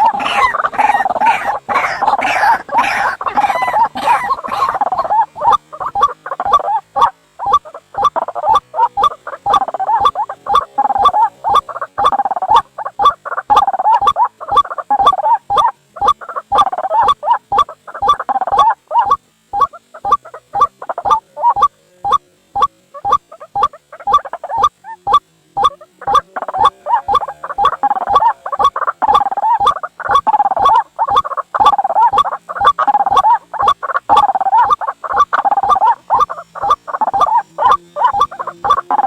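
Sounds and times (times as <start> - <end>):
waterhen harsh repeated calls: 0.0 - 39.0.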